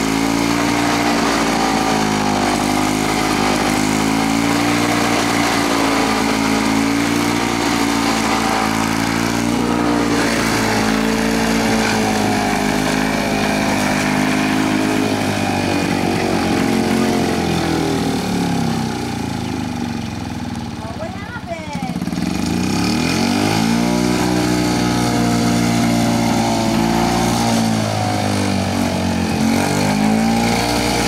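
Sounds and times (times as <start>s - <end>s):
lawn mower engine running: 0.0s - 31.0s.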